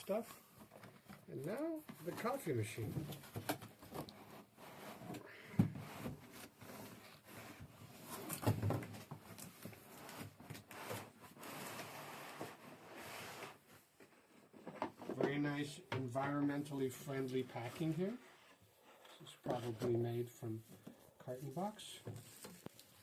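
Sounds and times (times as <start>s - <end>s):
cardboard rustling and scraping: 0.1s - 15.4s, 19.4s - 23.0s.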